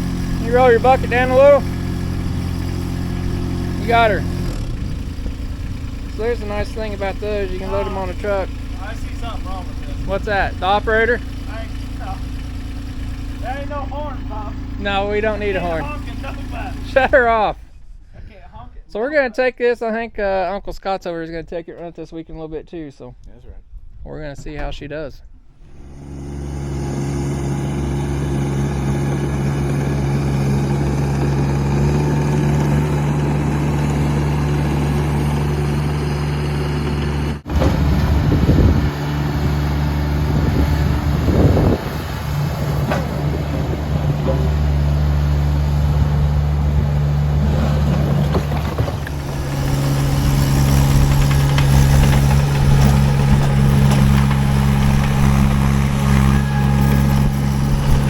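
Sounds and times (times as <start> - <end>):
diesel engine running and surging: 0.0 - 17.6, 25.6 - 58.0.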